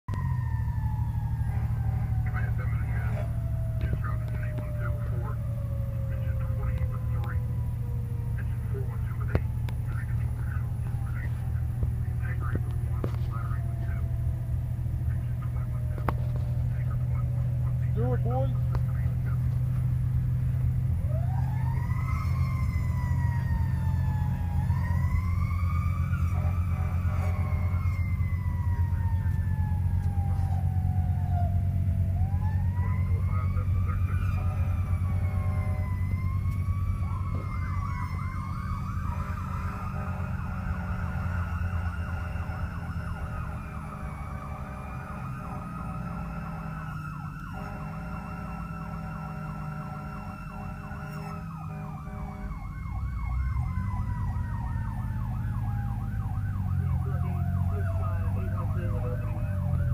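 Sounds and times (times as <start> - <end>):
fire engine siren wailing: 0.0 - 59.9
truck engine drone: 0.0 - 59.9
siren yelping warble: 0.1 - 19.4, 20.4 - 59.9.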